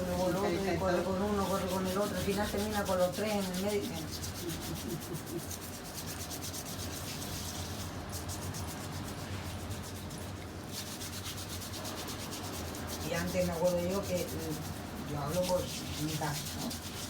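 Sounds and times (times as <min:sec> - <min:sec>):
file rasping on feet: 0:00.0 - 0:17.0.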